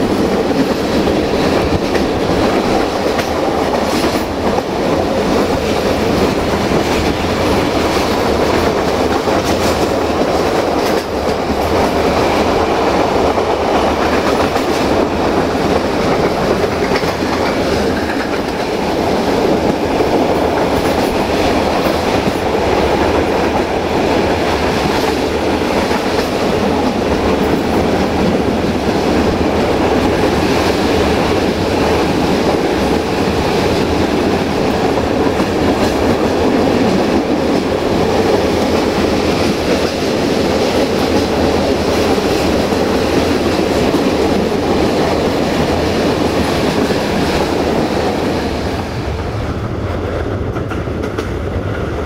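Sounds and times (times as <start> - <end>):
clickety-clack of rail joints: 0.0 - 52.0
wheels rumbling on rail: 0.0 - 52.0.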